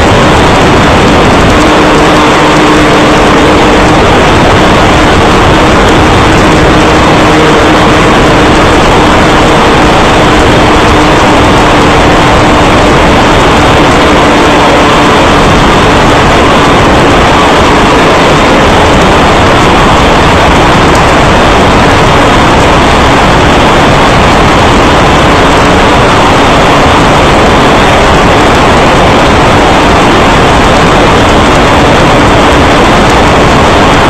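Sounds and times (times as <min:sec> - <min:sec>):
motorcycle engine: 0:00.0 - 0:34.0
wind noise: 0:00.0 - 0:34.0.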